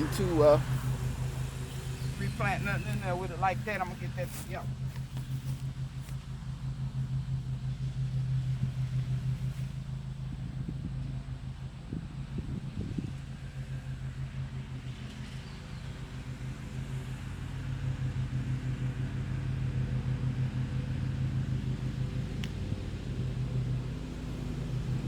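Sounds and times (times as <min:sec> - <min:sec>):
engine running with pulsing hum: 0:00.0 - 0:25.0.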